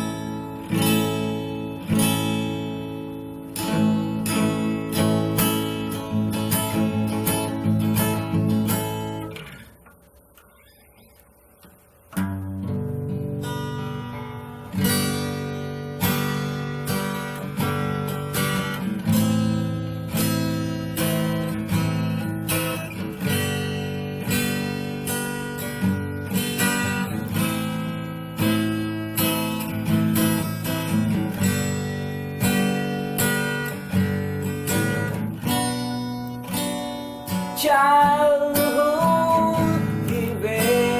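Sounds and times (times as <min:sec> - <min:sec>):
acoustic guitar chords: 0:00.0 - 0:40.9.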